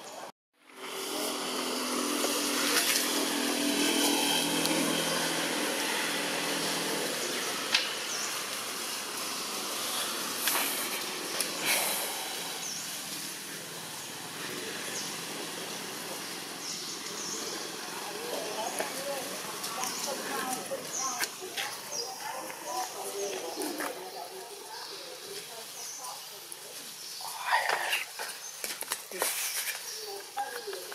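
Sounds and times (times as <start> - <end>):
outdoor noise: 0.0 - 30.9.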